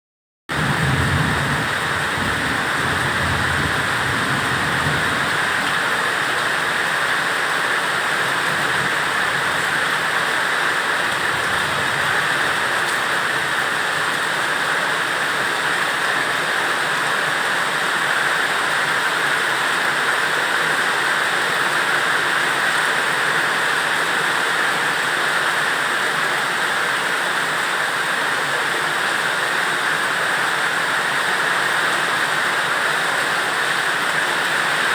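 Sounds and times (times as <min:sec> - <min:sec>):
steady rain hiss: 0:00.6 - 0:34.9.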